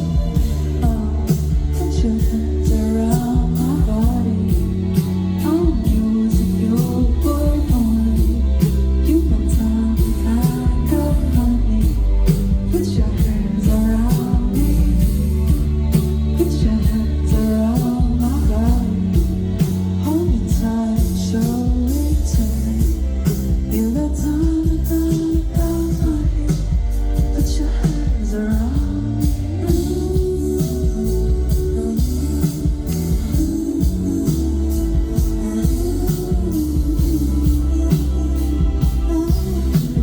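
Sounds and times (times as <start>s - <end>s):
deep sustained bass: 0.0s - 40.0s
person singing: 0.0s - 40.0s
steady beat: 0.0s - 40.0s.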